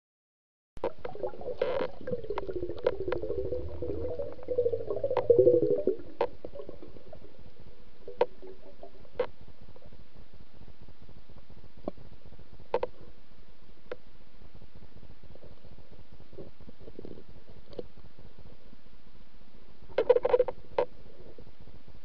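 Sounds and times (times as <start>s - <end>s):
underwater water hum: 0.8s - 22.0s
low rumble: 0.9s - 19.3s.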